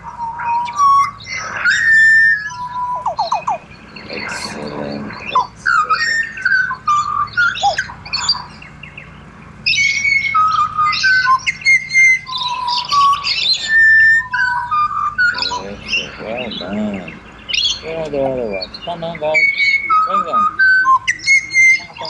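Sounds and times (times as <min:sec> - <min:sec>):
bird chattering squawks: 0:00.0 - 0:22.0
bird whistling song: 0:00.0 - 0:22.0.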